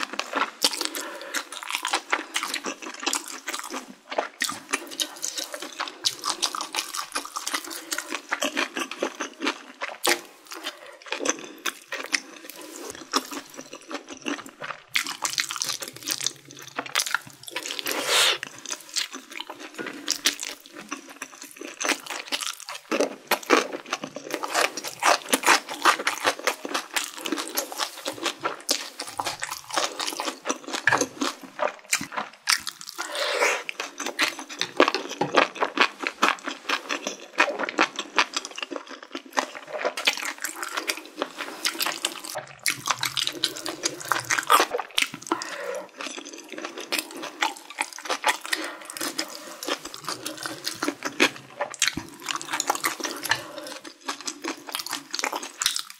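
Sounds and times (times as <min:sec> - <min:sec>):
wet crunchy chewing: 0:00.0 - 0:55.9.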